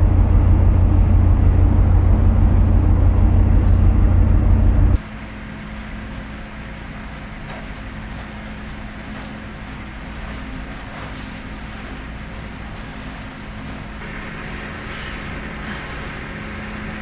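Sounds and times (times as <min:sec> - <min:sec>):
loud vehicle rumble: 0:00.0 - 0:17.0.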